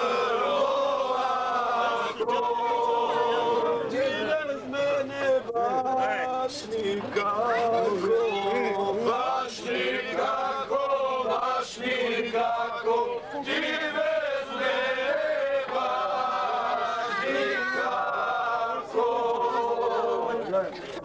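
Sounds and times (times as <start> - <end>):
men singing together: 0.0 - 20.7.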